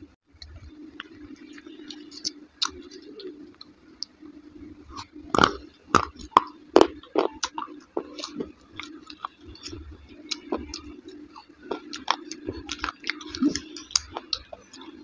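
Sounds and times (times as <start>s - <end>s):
wet chewing and mouth smacks: 0.4s - 4.2s, 4.8s - 15.0s.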